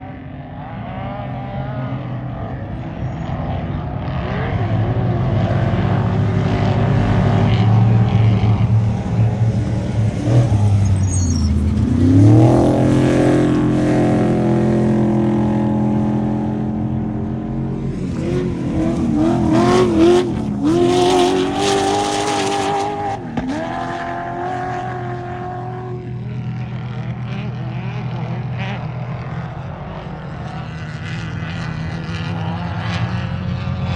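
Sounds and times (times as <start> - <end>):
truck engines revving hard: 0.0 - 33.9.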